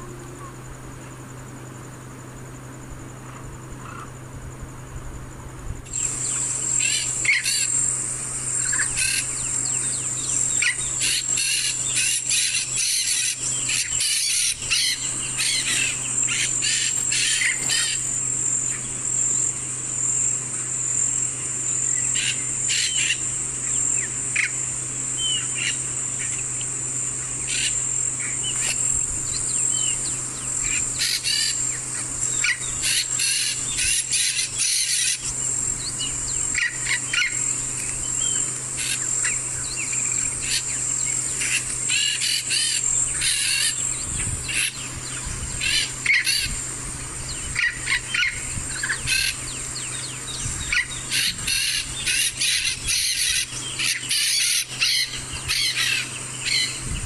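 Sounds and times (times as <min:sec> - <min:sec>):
high-pitched insect drone: 0:00.0 - 0:57.0
bird calls and chirps: 0:05.9 - 0:20.7, 0:21.6 - 0:57.0.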